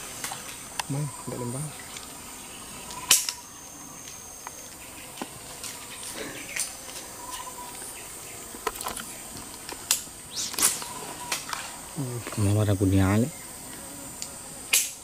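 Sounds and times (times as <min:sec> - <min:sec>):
high-pitched insect buzzing: 0:00.0 - 0:15.0.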